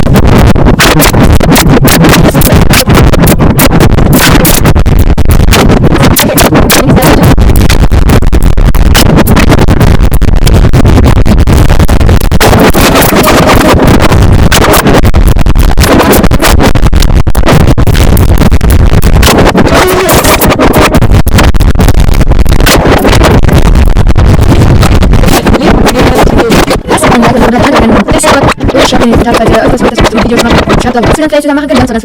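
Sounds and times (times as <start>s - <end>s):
distorted electronic music: 0.0s - 32.0s.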